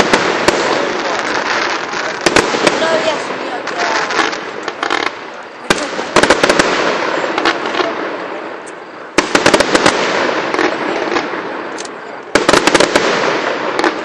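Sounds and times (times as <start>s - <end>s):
fireworks crackling and fizzing: 0.0s - 14.0s.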